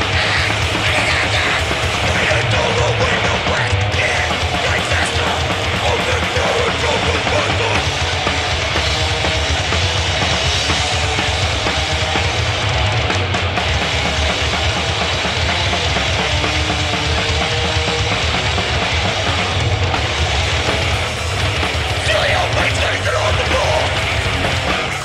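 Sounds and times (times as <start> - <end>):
punk band playing: 0.0 - 25.0.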